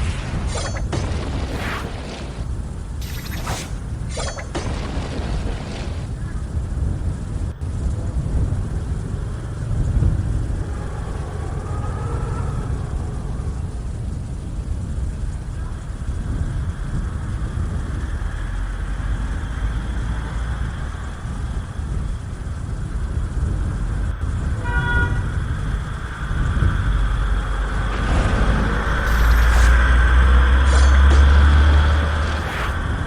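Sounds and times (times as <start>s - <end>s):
low rumble of road vehicles: 0.0s - 3.1s, 3.7s - 33.0s.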